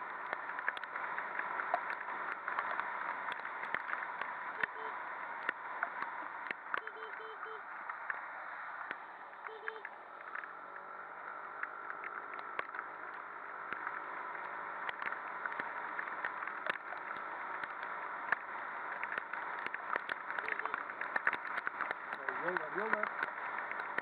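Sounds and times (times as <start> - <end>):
raindrops ticking on camera: 0.0 - 24.0
wind and wet road noise: 0.0 - 24.0.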